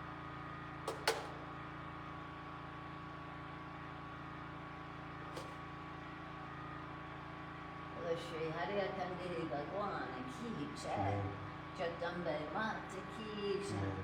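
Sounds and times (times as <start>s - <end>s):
generator engine hum: 0.0s - 14.0s.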